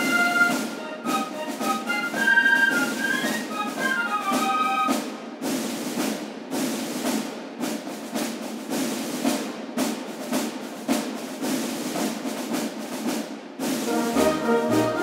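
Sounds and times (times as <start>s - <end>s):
snare drum strokes and rolls: 0.0s - 15.0s.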